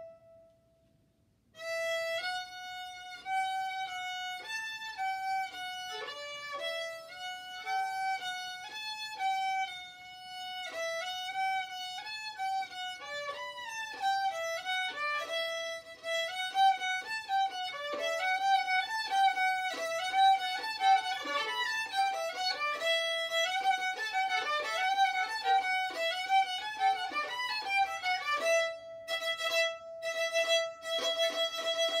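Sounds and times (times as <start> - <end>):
solo violin melody: 0.0 - 0.5, 1.5 - 32.0.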